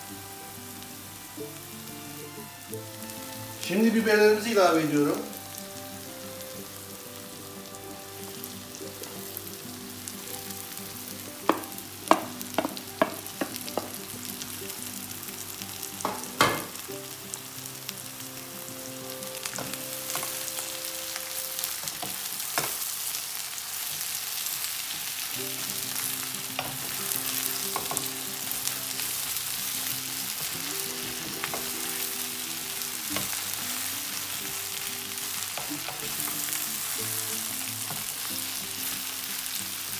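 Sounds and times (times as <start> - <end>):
peppers sizzling in a wok: 0.0 - 39.9.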